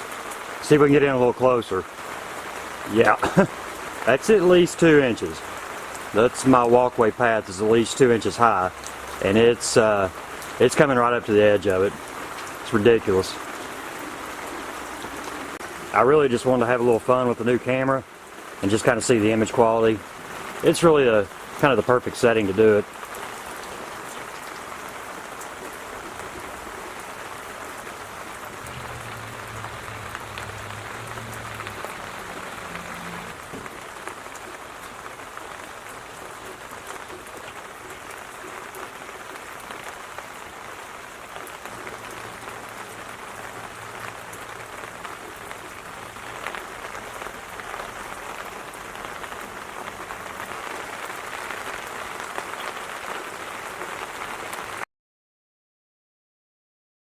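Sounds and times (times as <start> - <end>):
rain falling on water: 0.0 - 54.9.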